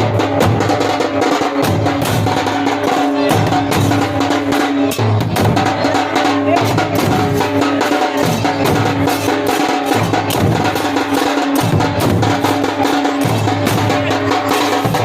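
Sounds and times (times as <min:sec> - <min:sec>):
drums in fast rhythm: 0:00.0 - 0:15.0.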